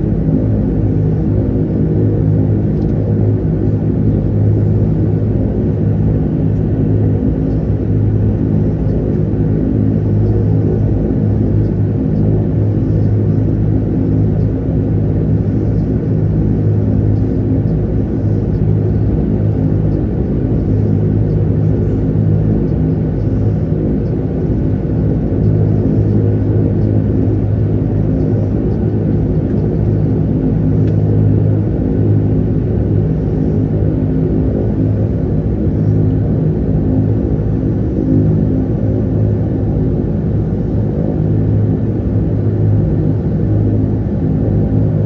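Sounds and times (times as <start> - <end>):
turboprop engines droning: 0.0 - 45.0.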